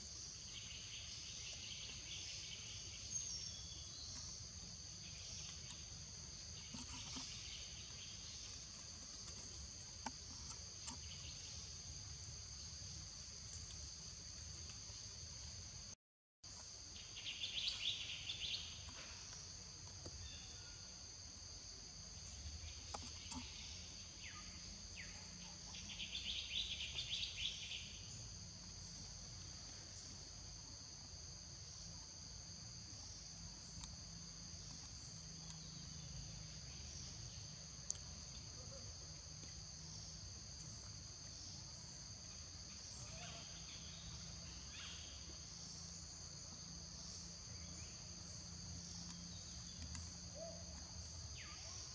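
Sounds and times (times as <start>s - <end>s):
insects droning: 0.0s - 51.9s.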